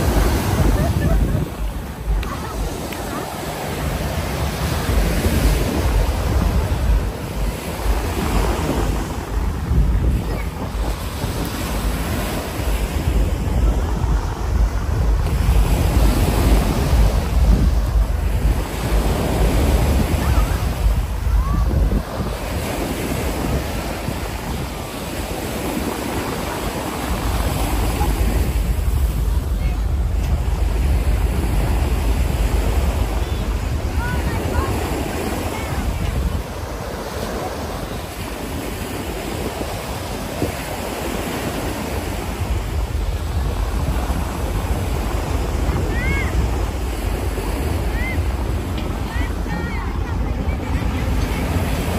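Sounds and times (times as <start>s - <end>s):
ocean surf breaking: 0.0s - 51.9s
wind rumbling on microphone: 0.0s - 51.9s.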